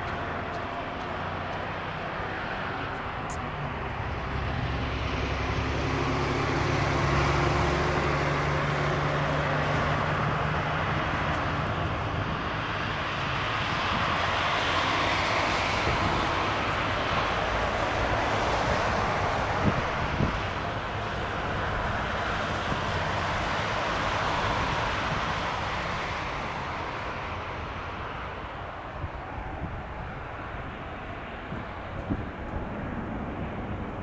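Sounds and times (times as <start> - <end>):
tow tractor engine drone: 0.0 - 34.0.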